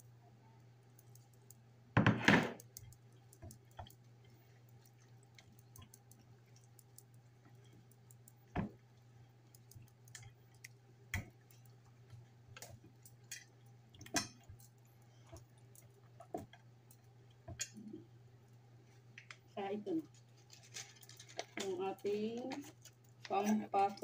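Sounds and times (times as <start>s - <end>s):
steady low hum: 0.0s - 24.0s
soft squishing of raw chicken: 2.6s - 24.0s.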